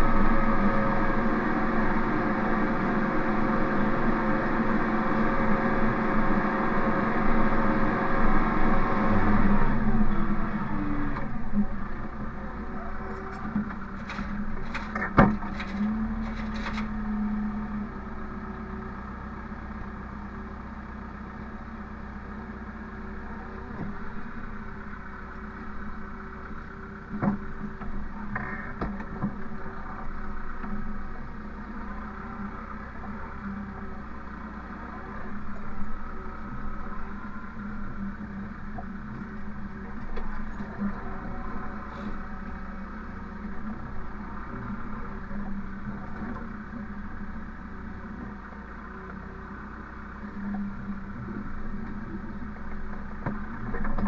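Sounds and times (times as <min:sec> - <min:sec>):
machine engine running: 0:00.0 - 0:54.0.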